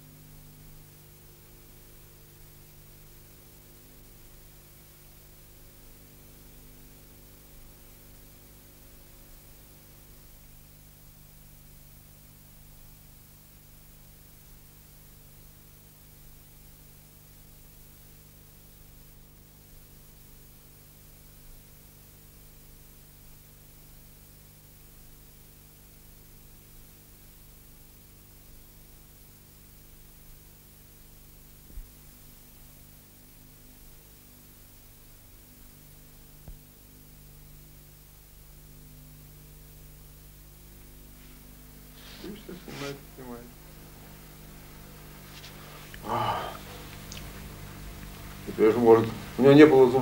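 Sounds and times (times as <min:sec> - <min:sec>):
low constant hum: 0:00.0 - 0:22.2, 0:26.8 - 0:50.0
soundtrack hiss: 0:00.0 - 0:25.6, 0:26.3 - 0:50.0.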